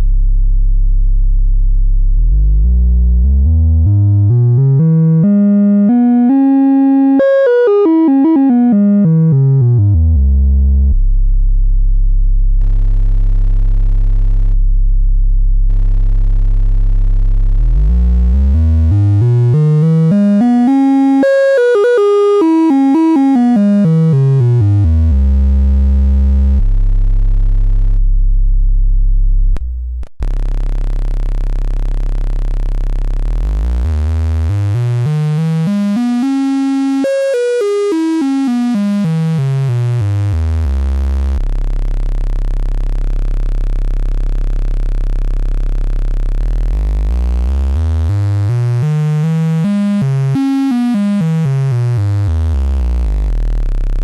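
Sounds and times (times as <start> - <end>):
buzzy synthesizer drone: 0.0 - 54.0.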